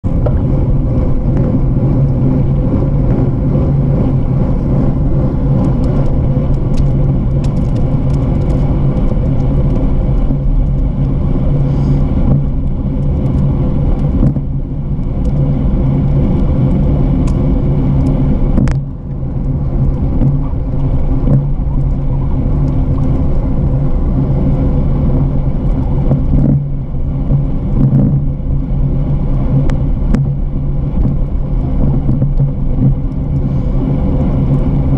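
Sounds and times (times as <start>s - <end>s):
bike tyre rumble: 0.0s - 34.9s
wind on microphone: 0.0s - 34.9s.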